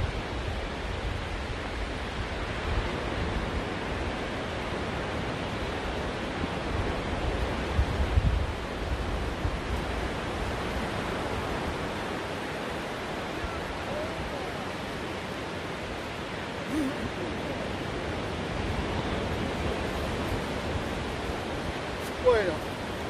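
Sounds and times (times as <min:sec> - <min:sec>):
surf breaking on beach: 0:00.0 - 0:23.0.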